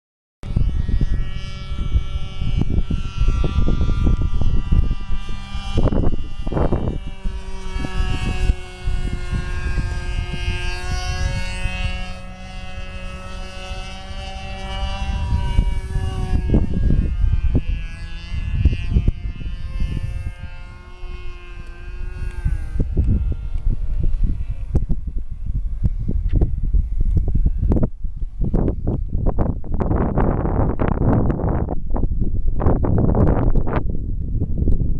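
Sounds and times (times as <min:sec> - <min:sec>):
model airplane engine whine: 0:00.4 - 0:34.9
wind buffeting microphone: 0:00.4 - 0:34.9.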